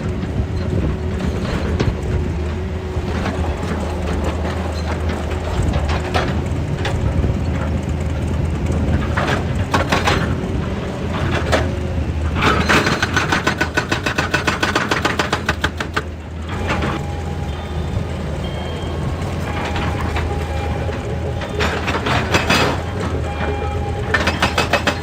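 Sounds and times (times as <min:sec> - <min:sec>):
excavator diesel engine running: 0:00.0 - 0:25.0
metal clanks and knocks: 0:00.2 - 0:07.8, 0:08.8 - 0:10.5, 0:12.4 - 0:25.0.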